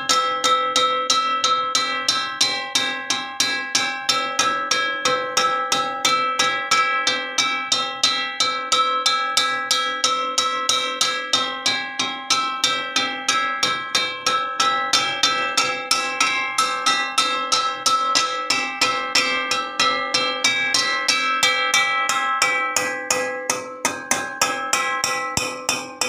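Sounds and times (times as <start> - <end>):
metal wok struck ringing: 0.0 - 26.0.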